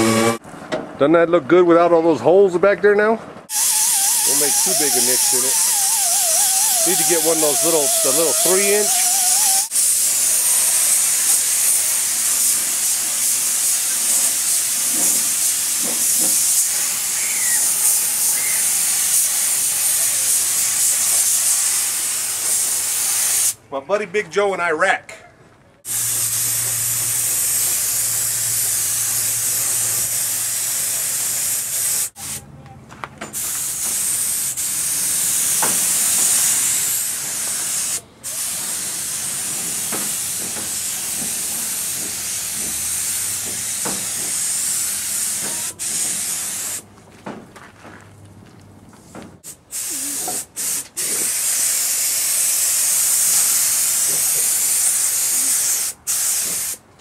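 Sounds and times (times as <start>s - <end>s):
paint spray hissing: 3.5s - 23.6s, 25.9s - 32.4s, 33.4s - 46.8s, 49.4s - 56.8s.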